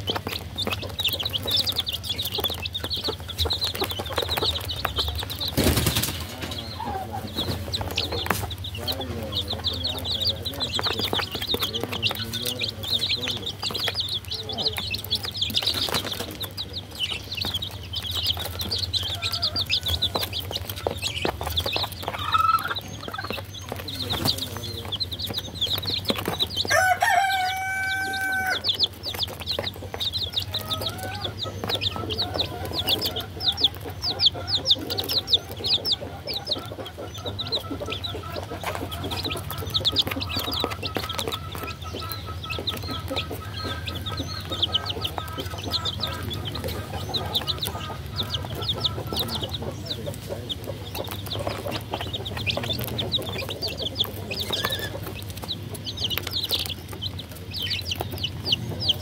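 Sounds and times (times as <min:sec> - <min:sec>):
baby chicks peeping: 0:00.0 - 0:59.0.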